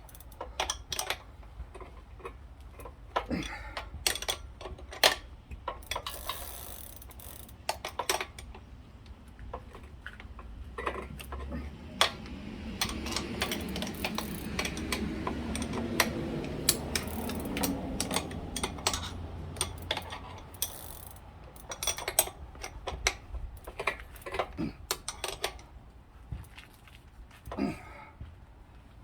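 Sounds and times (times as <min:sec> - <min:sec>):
metallic clicks of hand tools: 0:00.0 - 0:08.7, 0:09.5 - 0:25.7.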